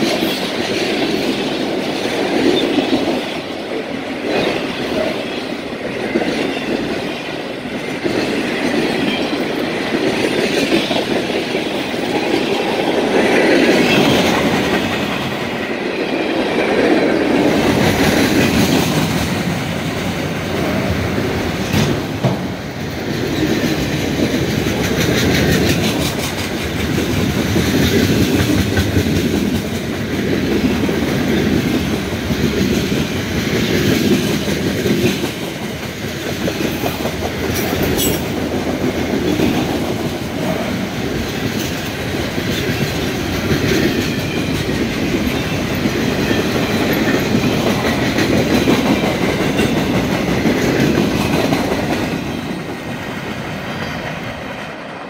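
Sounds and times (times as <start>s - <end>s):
clickety-clack over rail joints: 0.0s - 55.0s
freight train wheels rumbling on rails: 0.0s - 55.0s.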